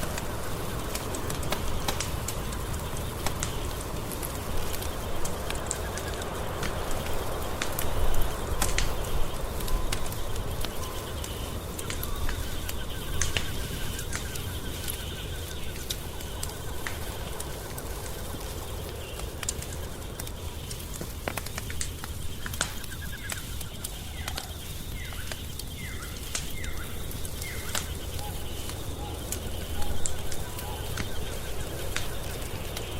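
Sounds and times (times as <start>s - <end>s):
faint trilling and chirping calls: 0.0s - 32.9s
wood fire crackling and popping: 0.0s - 32.9s.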